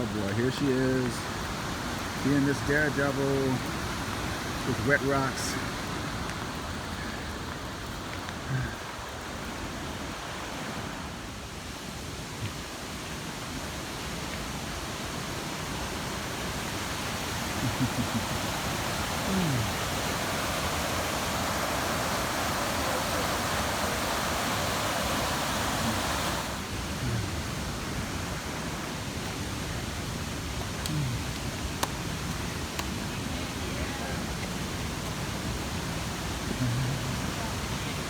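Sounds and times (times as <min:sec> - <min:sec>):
water rushing over rocks: 0:00.0 - 0:38.0.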